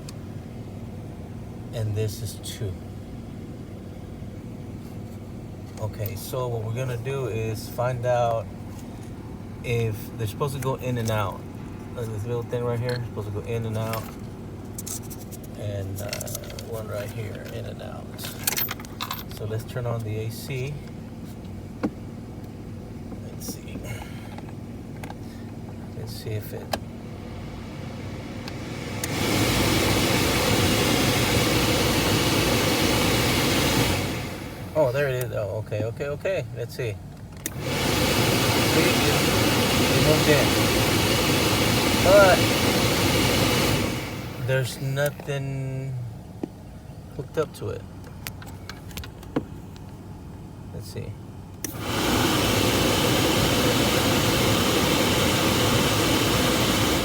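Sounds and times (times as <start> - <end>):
blower fan rushing air: 0.0 - 36.0, 36.6 - 57.0.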